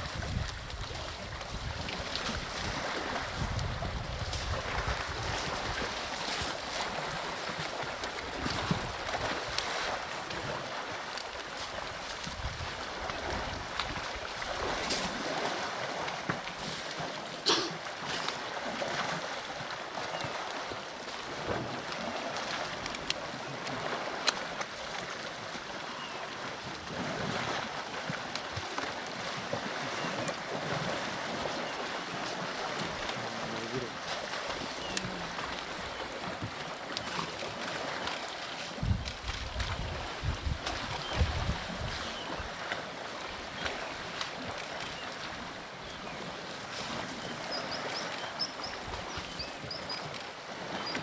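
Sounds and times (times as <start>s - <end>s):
water sloshing and splashing: 0.0s - 51.0s.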